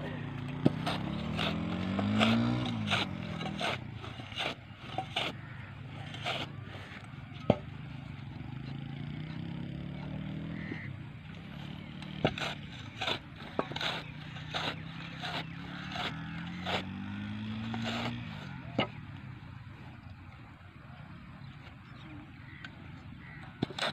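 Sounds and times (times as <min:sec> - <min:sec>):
steady engine hum: 0:00.0 - 0:23.9.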